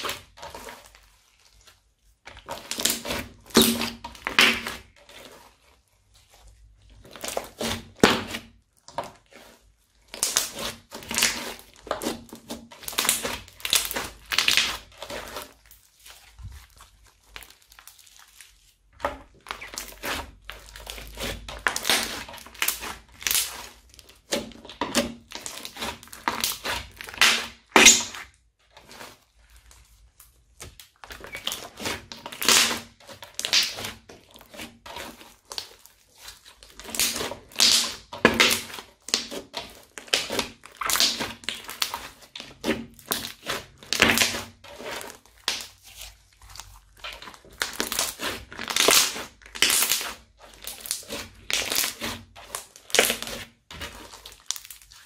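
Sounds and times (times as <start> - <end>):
hands squeezing crunchy slime: 0.0 - 55.0.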